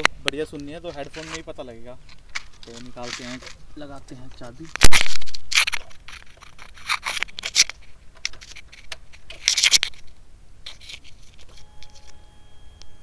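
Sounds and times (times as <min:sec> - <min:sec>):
scraping rustling sounds: 0:00.0 - 0:12.2.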